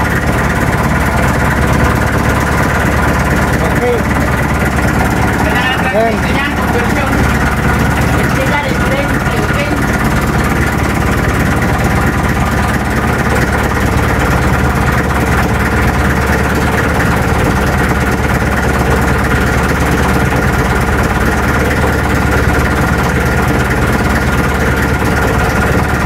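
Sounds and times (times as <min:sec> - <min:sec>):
diesel boat engine idling: 0:00.0 - 0:26.0.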